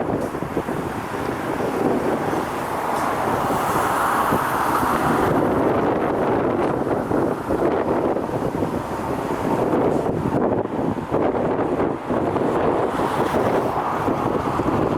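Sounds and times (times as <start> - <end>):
steady rushing noise: 0.0 - 14.9
wind buffeting microphone: 0.0 - 14.9.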